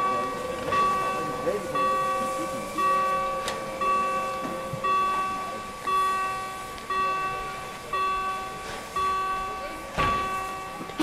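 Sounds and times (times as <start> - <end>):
bell ringing: 0.0 - 11.0.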